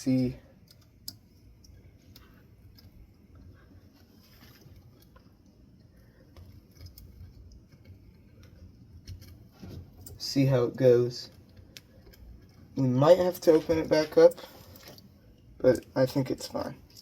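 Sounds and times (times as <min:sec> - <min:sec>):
faint handling noises: 0:00.0 - 0:17.0.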